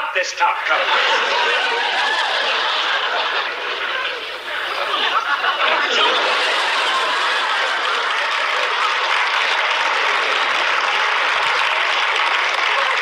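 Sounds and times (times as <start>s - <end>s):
audience laughing: 0.6s - 13.0s
audience applauding: 0.7s - 13.0s.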